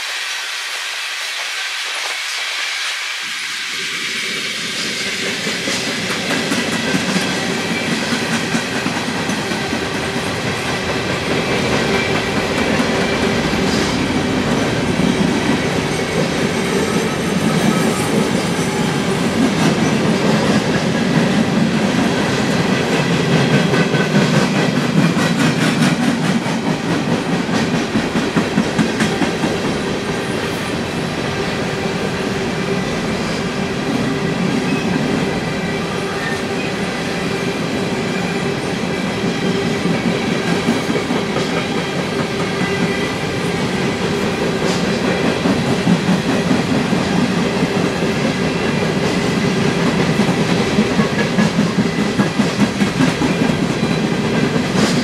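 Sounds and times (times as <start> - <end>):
freight train rumbling and rattling: 0.0 - 55.0.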